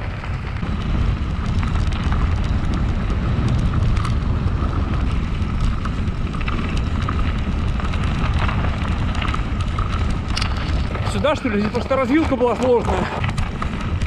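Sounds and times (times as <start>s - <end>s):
bike clicks and rattles: 0.0s - 14.0s
bike tyres rolling on snow: 0.0s - 14.0s
wind on microphone: 0.0s - 14.0s.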